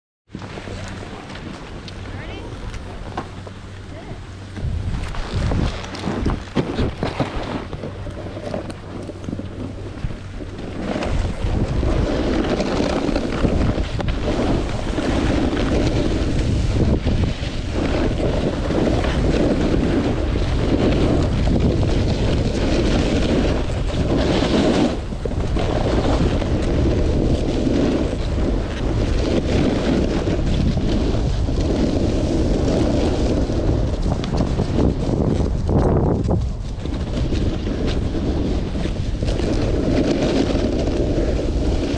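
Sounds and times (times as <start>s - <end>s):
skis scraping on snow: 0.3s - 41.9s
wind buffeting microphone: 0.3s - 41.9s.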